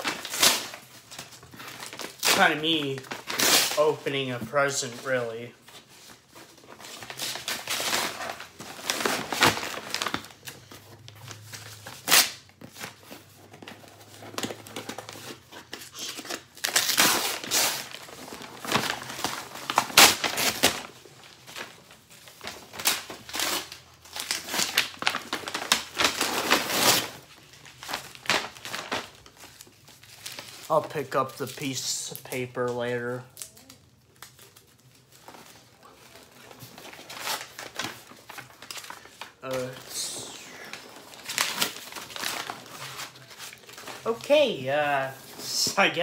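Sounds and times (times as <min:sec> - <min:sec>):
packing paper crinkling: 0:00.0 - 0:46.0.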